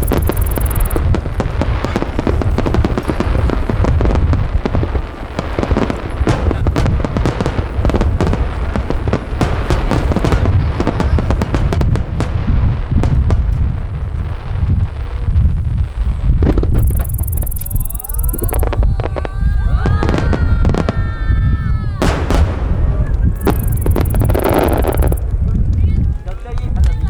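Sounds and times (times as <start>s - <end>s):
fireworks booming and crackling: 0.0s - 27.0s.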